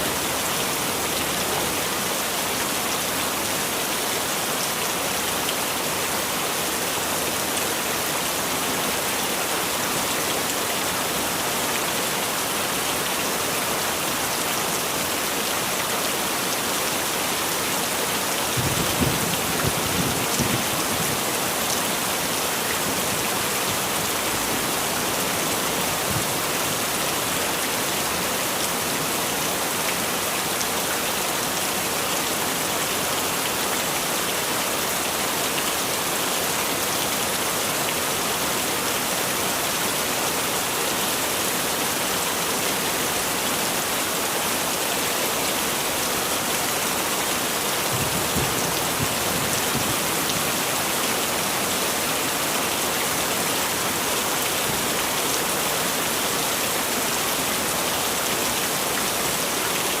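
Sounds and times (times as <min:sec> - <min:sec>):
heavy rain: 0:00.0 - 1:00.0.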